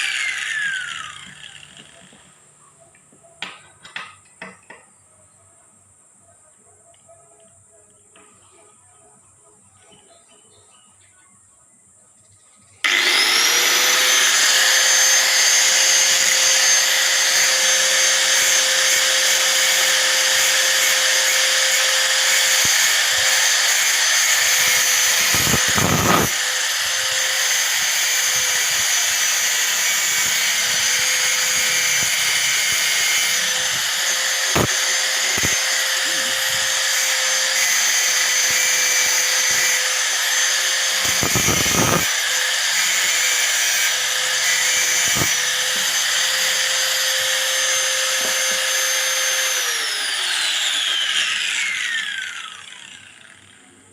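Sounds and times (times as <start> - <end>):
angle grinder whining: 0.0 - 2.4, 12.8 - 53.9.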